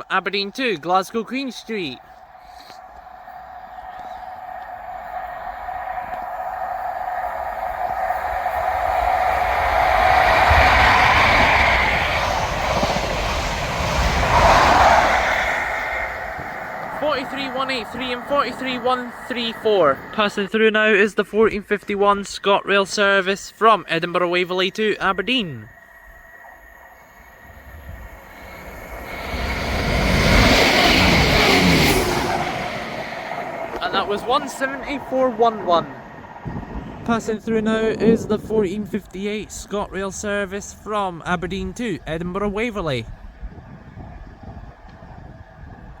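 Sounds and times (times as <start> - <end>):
train passing at speed: 0.0 - 20.5, 23.0 - 46.0.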